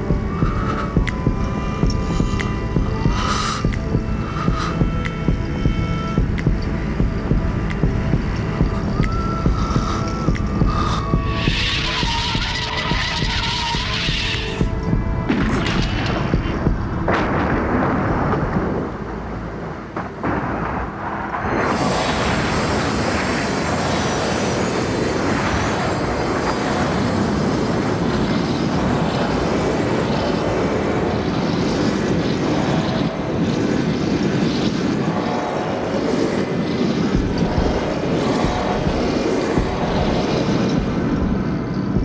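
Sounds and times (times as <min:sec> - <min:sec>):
loud rumbling drone: 0:00.0 - 0:42.0.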